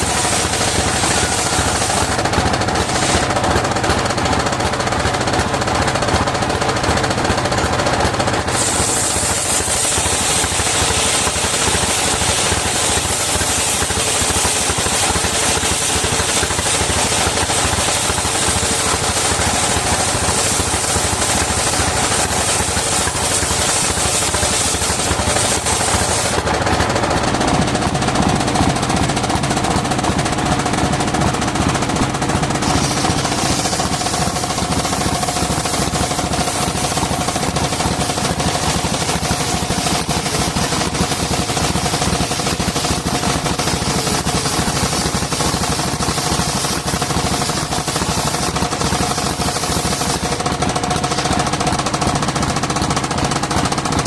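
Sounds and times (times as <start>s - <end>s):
saw blade cutting wood: 0.0s - 54.0s
saw engine running: 0.0s - 54.0s.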